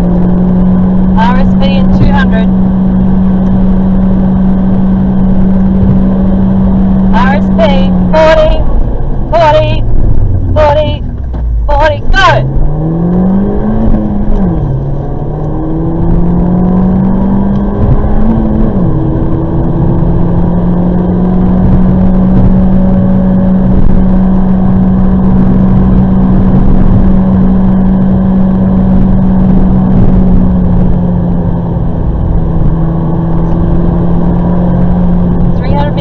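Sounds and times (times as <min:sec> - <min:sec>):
car engine accelerating: 0:00.0 - 0:36.0
tyre and road noise: 0:00.0 - 0:36.0.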